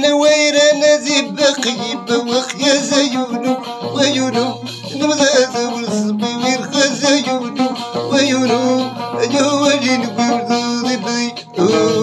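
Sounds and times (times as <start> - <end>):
plucked lute playing: 0.0 - 12.0.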